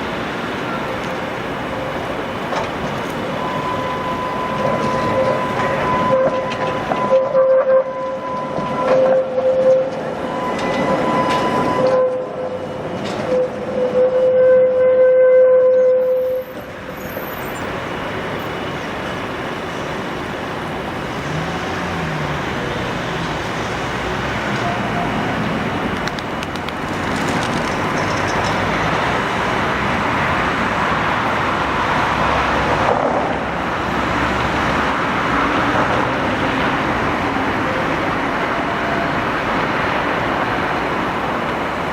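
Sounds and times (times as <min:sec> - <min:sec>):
street traffic noise: 0:00.0 - 0:41.9
tram whine: 0:00.0 - 0:41.9.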